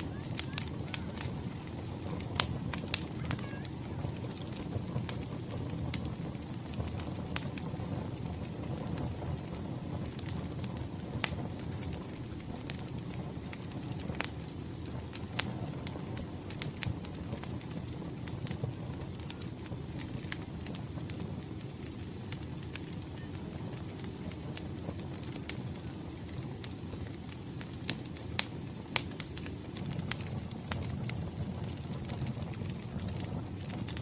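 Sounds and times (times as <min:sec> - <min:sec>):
low rumble of burning logs: 0:00.0 - 0:34.0
wood fire crackling and popping: 0:00.0 - 0:34.0.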